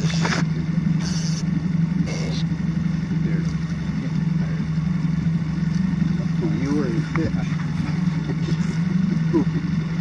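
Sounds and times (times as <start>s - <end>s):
outboard motor idling: 0.0s - 10.0s.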